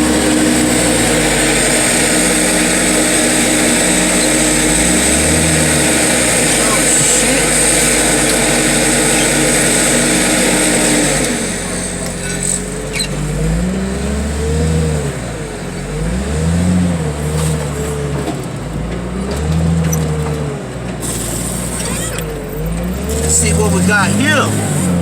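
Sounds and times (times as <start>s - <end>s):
large engine revving: 0.0s - 25.0s.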